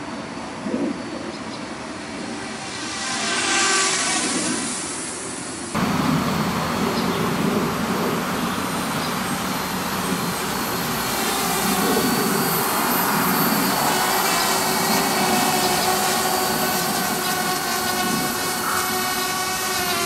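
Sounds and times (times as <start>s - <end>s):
drone propellers whirring: 1.6s - 20.0s.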